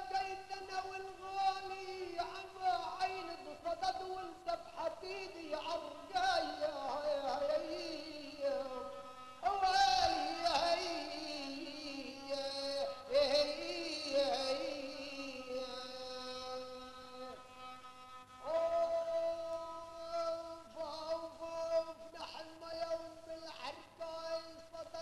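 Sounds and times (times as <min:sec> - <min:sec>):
person singing ornamented folk song: 0:00.0 - 0:25.0.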